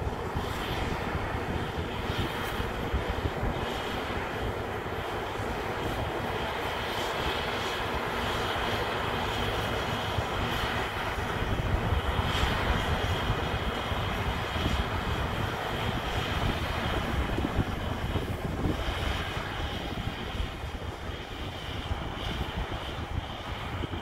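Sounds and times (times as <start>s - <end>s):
combine harvester machinery drone: 0.0s - 24.0s
wind rumbling on microphone: 0.0s - 24.0s.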